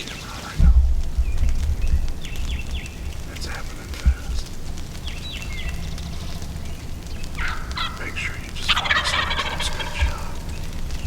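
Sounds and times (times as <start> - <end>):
turkeys gobbling: 0.0 - 0.8, 2.1 - 11.0.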